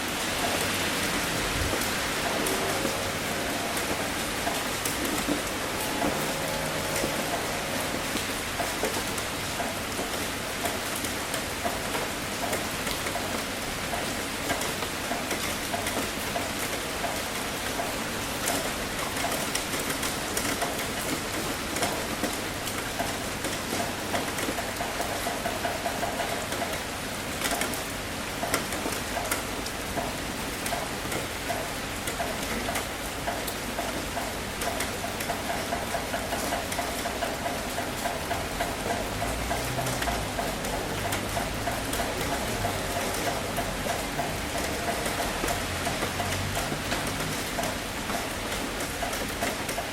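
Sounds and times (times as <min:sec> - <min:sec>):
heavy rain on a tin roof: 0:00.0 - 0:49.9.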